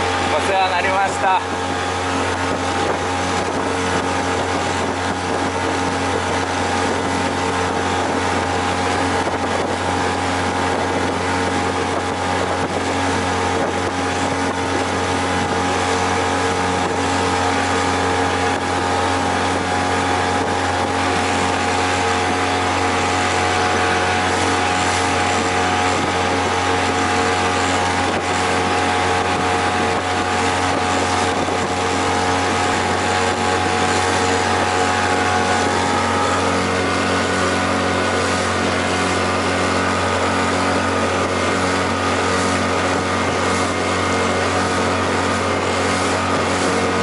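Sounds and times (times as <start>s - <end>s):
outboard motor running: 0.0s - 47.0s
water noise: 0.0s - 47.0s
wind noise: 0.0s - 47.0s.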